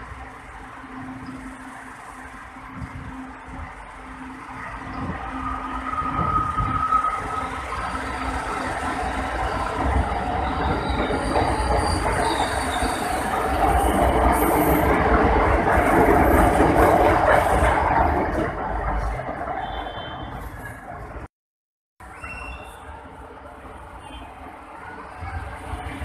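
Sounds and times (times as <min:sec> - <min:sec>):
train rumbling past: 0:00.0 - 0:21.3.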